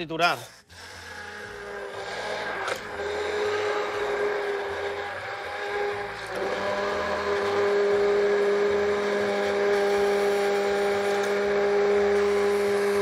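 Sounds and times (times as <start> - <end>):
stick blender motor humming: 0.2 - 13.0.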